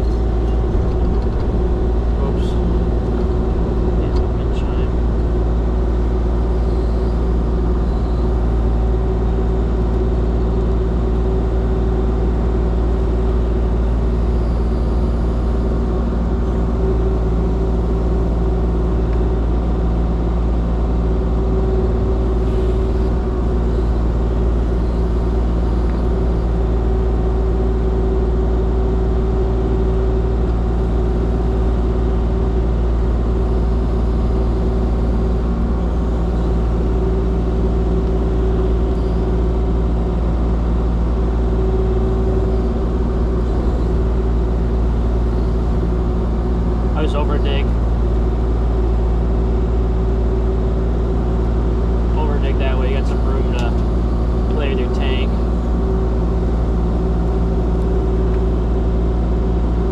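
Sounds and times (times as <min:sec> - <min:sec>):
excavator diesel engine drone: 0:00.0 - 0:59.9.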